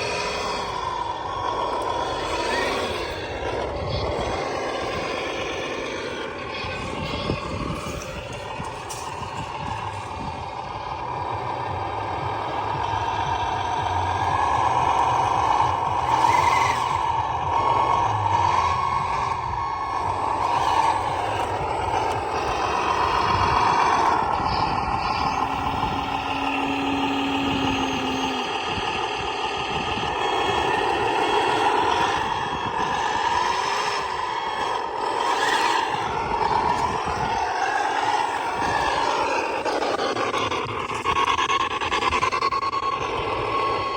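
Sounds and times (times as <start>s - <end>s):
toy truck drivetrain whining: 0.0s - 43.9s.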